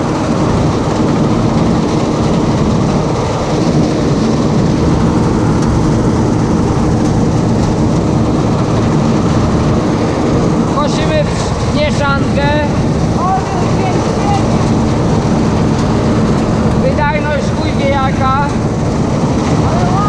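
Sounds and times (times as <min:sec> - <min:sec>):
combine harvester engine drone: 0:00.0 - 0:20.0
threshing machinery: 0:00.0 - 0:20.0.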